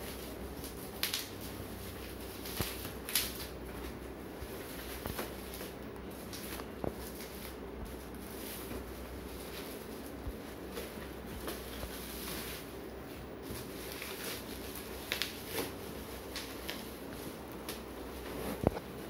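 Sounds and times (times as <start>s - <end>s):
bubble wrap crinkling: 0.0s - 19.0s
low background hum: 0.0s - 19.0s.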